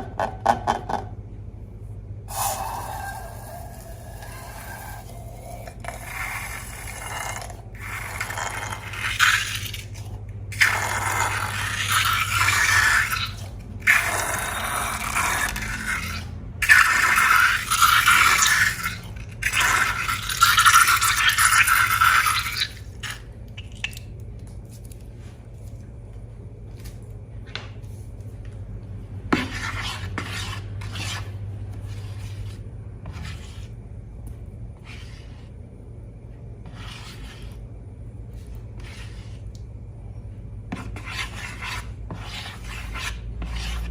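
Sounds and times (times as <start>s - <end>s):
slime being scraped and mixed: 2.3s - 25.9s, 29.2s - 35.8s, 36.5s - 39.8s, 40.7s - 43.9s.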